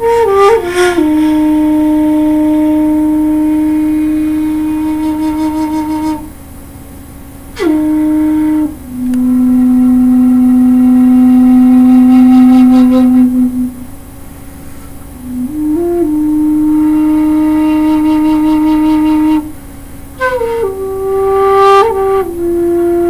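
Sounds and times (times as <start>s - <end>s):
bamboo flute melody: 0.0s - 6.4s, 7.5s - 13.9s, 15.2s - 23.0s.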